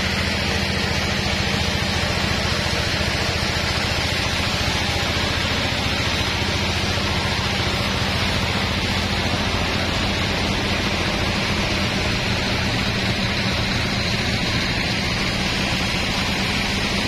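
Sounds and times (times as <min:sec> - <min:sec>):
sawmill saw running: 0:00.0 - 0:17.0.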